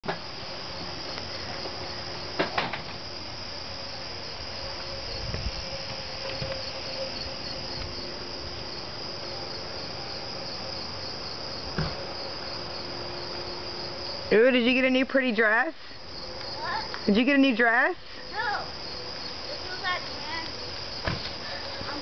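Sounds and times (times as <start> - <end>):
insects trilling: 0.1 - 22.0.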